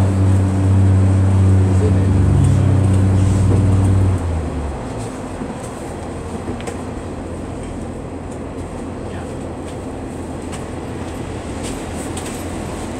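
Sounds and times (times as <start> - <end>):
train cabin rumble and hiss: 0.0 - 12.9.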